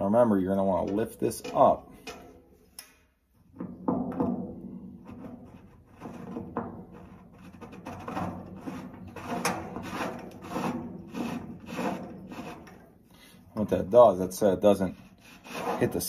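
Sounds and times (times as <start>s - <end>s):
metal scraping and knocking: 0.0s - 2.6s, 3.4s - 13.0s, 13.6s - 16.0s.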